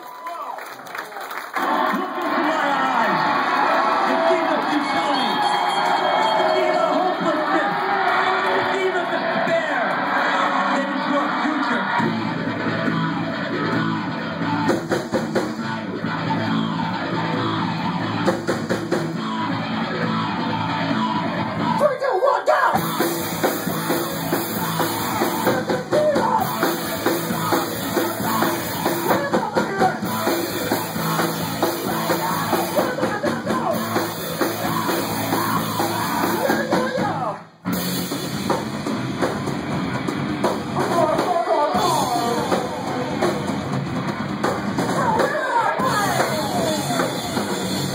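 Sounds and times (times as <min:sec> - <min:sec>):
rock band playing: 0:03.0 - 0:21.9, 0:22.7 - 0:47.9.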